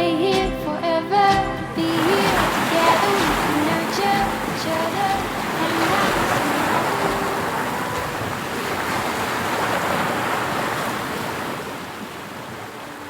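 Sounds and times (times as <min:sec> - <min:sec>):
sea waves breaking on beach: 0:01.3 - 0:13.0.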